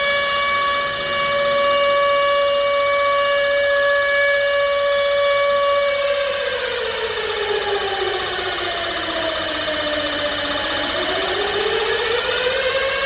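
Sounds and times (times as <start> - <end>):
siren winding down: 0.0 - 13.0.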